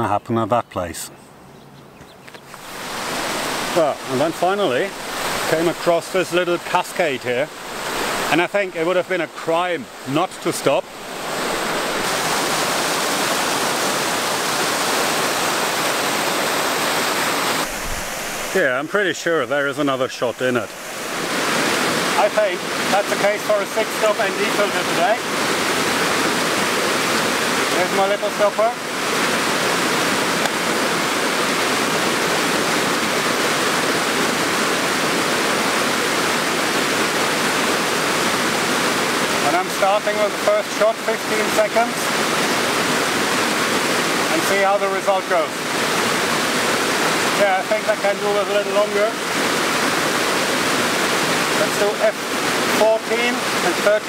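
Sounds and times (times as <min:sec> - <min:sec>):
water rushing over rocks: 0:02.4 - 0:54.0.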